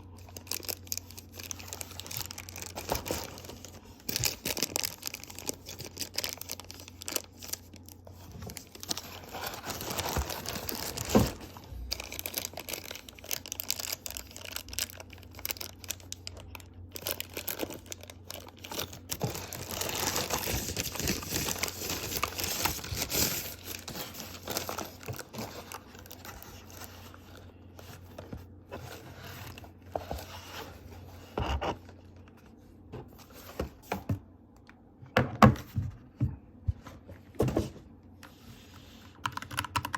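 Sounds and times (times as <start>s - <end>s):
plastic and paper crinkling: 0.0s - 34.0s.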